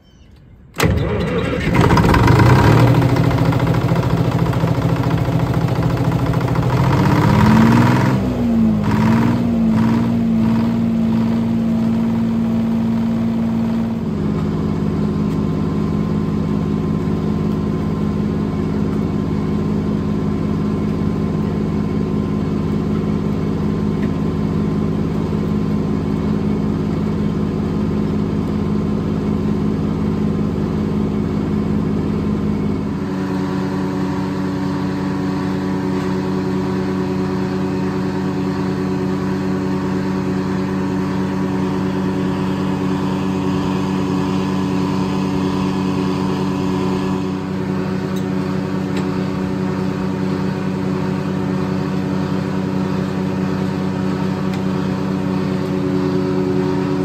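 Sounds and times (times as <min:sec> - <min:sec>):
old engine running: 0:00.8 - 0:57.0.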